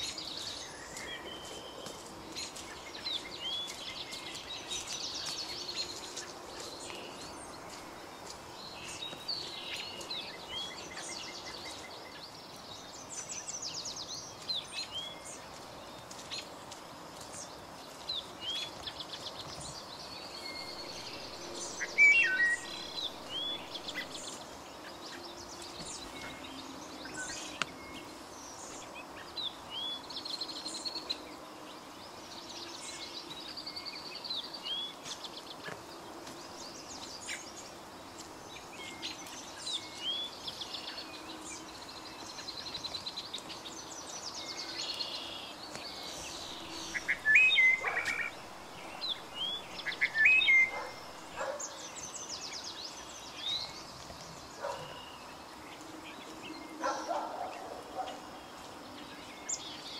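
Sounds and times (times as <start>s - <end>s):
songbirds chirping and trilling: 0.0s - 59.9s
steady outdoor hiss: 0.0s - 59.9s.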